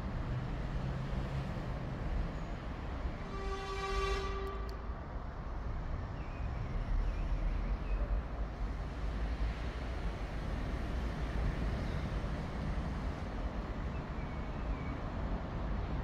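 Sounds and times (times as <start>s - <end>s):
traffic rumble and hiss: 0.0s - 16.0s.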